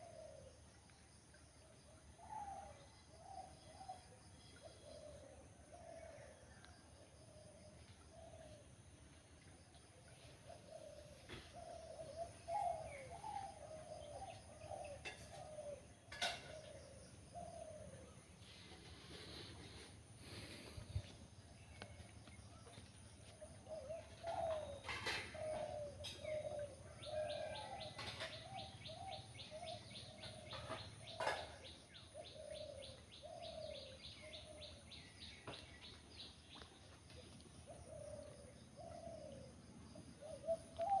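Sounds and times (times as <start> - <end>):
doves cooing: 0.0 - 0.6, 2.2 - 6.6, 10.1 - 22.0, 22.6 - 35.9, 36.5 - 41.0.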